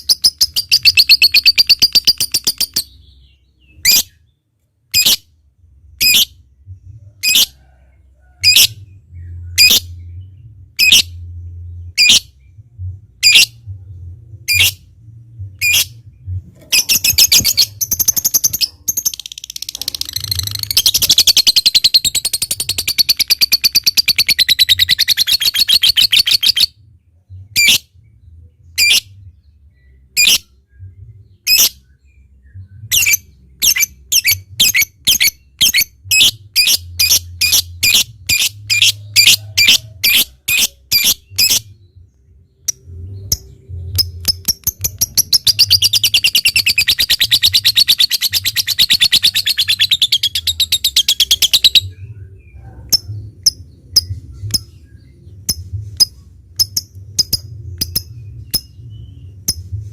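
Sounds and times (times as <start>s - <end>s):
bird chirps: 0.0s - 5.2s, 15.5s - 27.8s, 28.7s - 59.8s.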